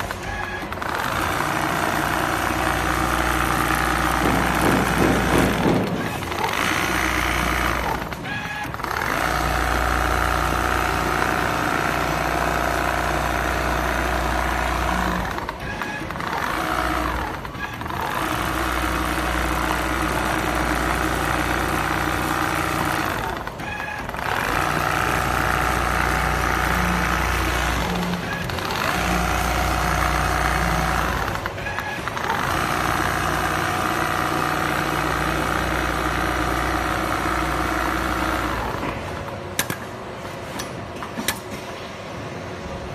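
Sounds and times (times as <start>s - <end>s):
sewing machine drone: 0.0s - 40.6s.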